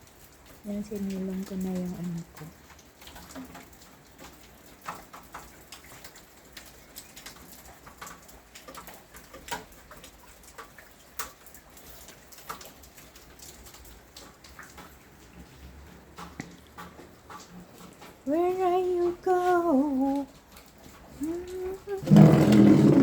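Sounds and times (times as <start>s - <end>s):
raindrops ticking on hard surfaces: 0.0s - 23.0s.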